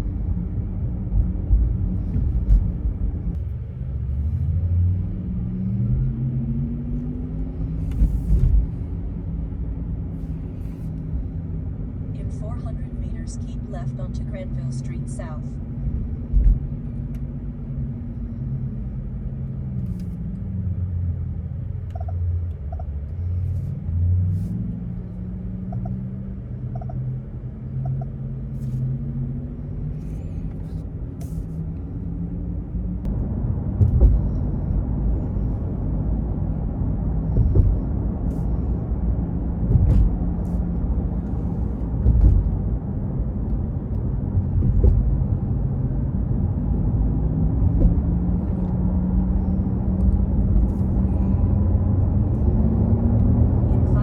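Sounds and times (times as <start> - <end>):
road and tyre rumble: 0.0 - 54.0.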